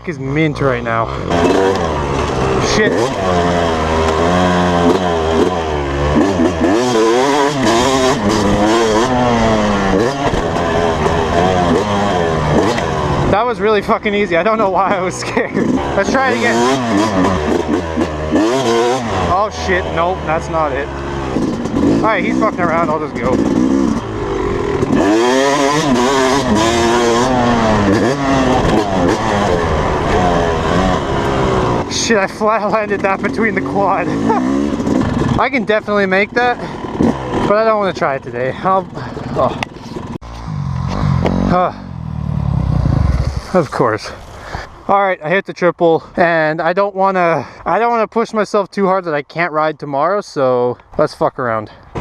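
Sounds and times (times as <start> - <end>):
dirt bike engine revving: 0.5 - 44.7.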